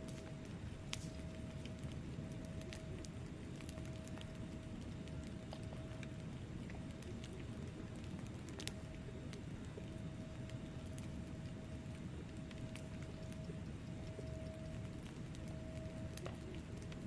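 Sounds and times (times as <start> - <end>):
fire crackling: 0.0 - 17.0
fire rumbling: 0.0 - 17.0.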